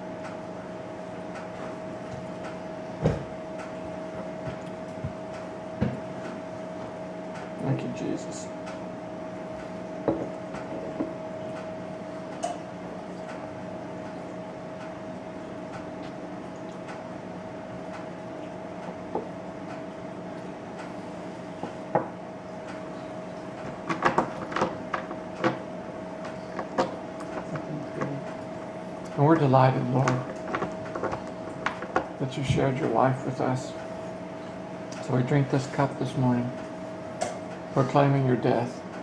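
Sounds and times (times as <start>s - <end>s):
steady room hum: 0.0s - 39.0s.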